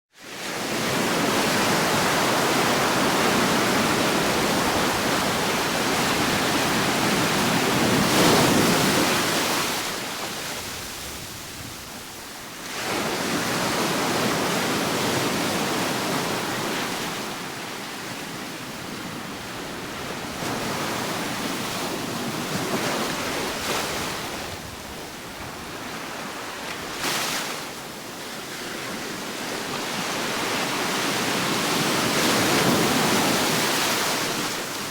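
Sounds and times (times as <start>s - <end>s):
ocean waves washing on shore: 0.2s - 34.9s.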